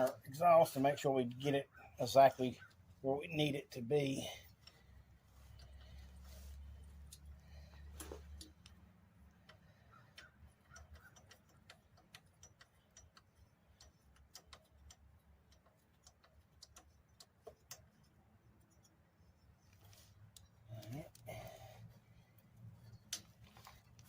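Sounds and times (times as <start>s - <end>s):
light clicks from handling metal parts: 0.0s - 24.0s
low background hum: 0.0s - 24.0s.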